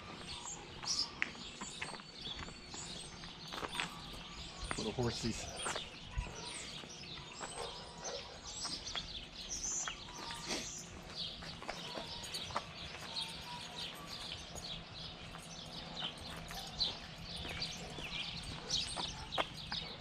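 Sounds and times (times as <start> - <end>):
birds chirping: 0.0 - 20.0
footsteps on pavement: 0.0 - 20.0.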